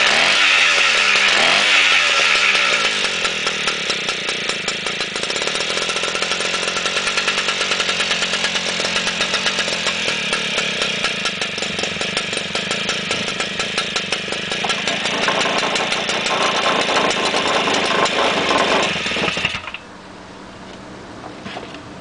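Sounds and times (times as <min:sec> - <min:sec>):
two-stroke stationary engine running: 0:00.0 - 0:19.9.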